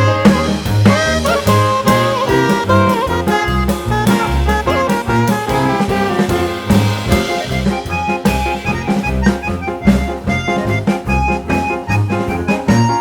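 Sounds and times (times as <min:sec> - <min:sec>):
instrumental music with beat: 0:00.0 - 0:13.0.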